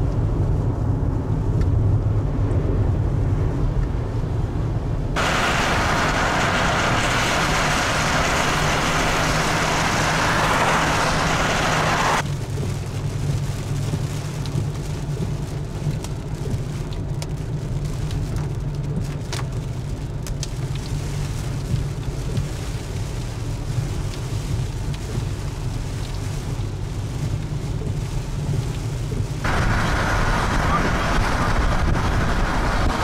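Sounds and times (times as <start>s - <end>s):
car engine and road drone: 0.0s - 33.0s
raindrops ticking on car: 5.2s - 33.0s.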